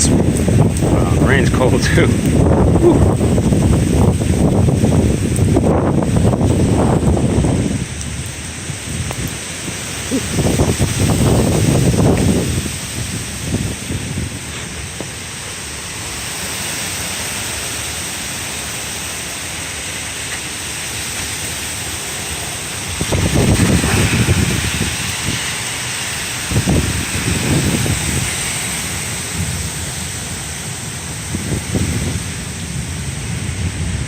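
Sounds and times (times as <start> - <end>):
heavy rain hissing: 0.0 - 34.0
low thunder rumble: 0.0 - 34.0.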